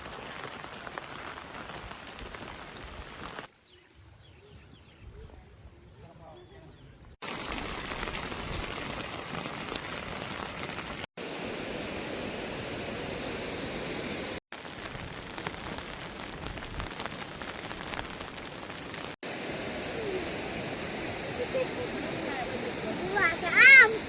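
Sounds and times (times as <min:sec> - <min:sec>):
heavy rain: 0:00.0 - 0:03.5, 0:07.2 - 0:24.0.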